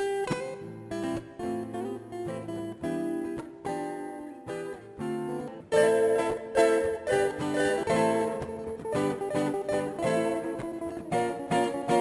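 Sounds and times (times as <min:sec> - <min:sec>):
plucked string music: 0:00.0 - 0:12.0.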